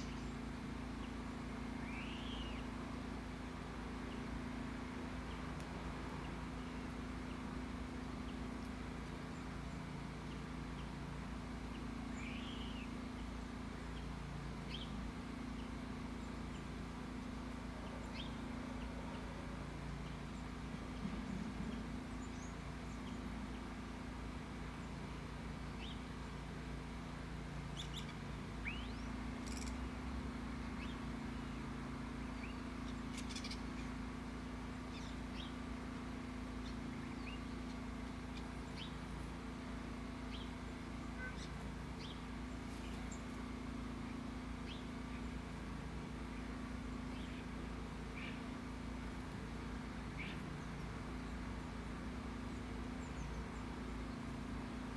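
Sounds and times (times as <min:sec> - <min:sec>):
low background hum: 0:00.0 - 0:54.9
small birds chirping: 0:00.0 - 0:54.9.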